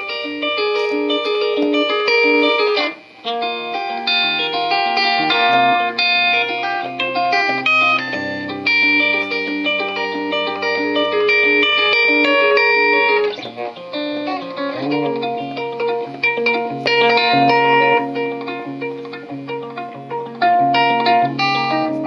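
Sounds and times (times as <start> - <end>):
electric guitar picking: 0.0 - 22.0.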